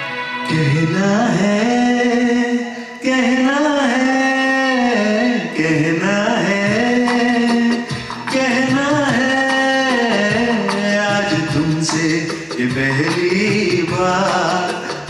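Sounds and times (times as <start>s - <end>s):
backing music: 0.0s - 15.0s
man singing into microphone: 0.1s - 15.0s.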